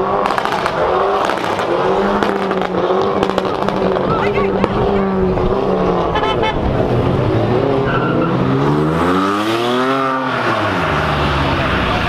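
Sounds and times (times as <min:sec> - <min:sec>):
car engine revving: 0:00.0 - 0:12.0
other engines running: 0:00.0 - 0:12.0.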